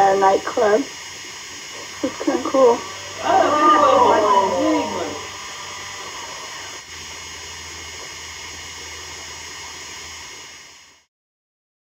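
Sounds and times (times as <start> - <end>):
tape hiss with low hum: 0.0 - 11.1.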